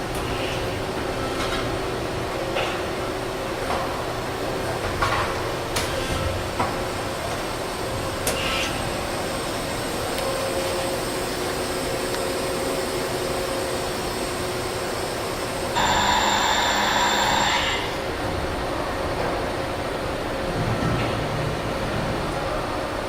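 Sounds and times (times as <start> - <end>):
machine mechanical hum: 0.0 - 23.0
machine whine with steady tones: 0.0 - 23.0.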